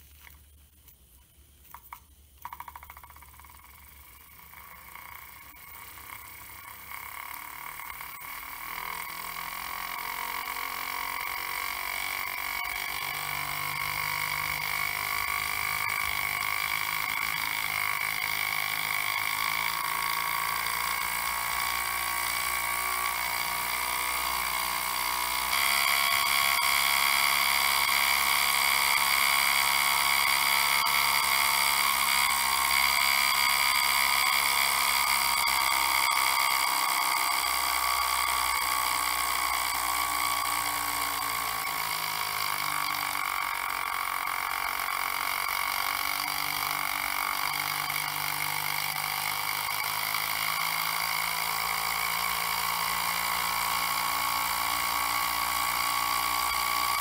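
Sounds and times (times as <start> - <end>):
miniature steam engine whining: 2.4 - 57.0.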